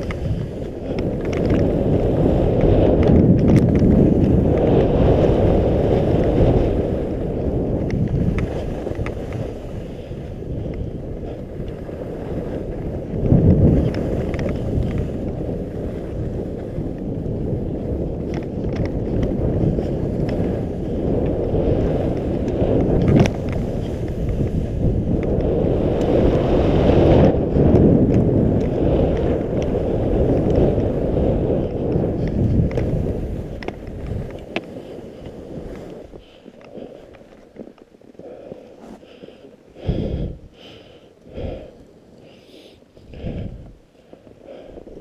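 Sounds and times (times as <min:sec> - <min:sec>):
skis hissing and scraping on snow: 0:00.0 - 0:45.0
wind rushing over microphone: 0:00.0 - 0:45.0.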